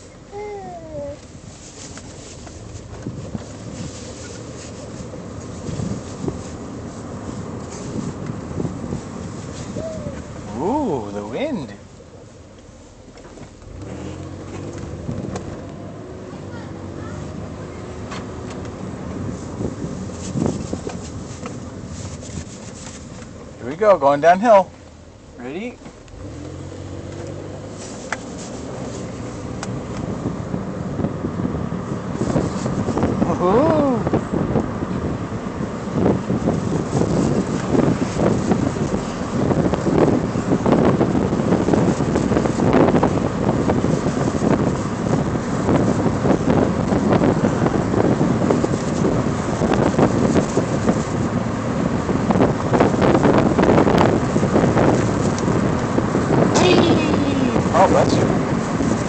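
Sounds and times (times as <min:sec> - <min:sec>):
car engine hum: 0:00.0 - 0:59.0
wind rushing through car windows: 0:00.0 - 0:59.0.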